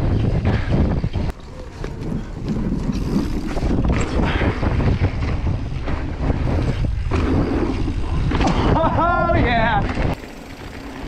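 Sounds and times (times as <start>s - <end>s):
wind buffeting microphone: 0.0s - 10.2s
bike rattling: 0.0s - 11.0s
tyres rumbling over dirt trail: 0.0s - 11.0s.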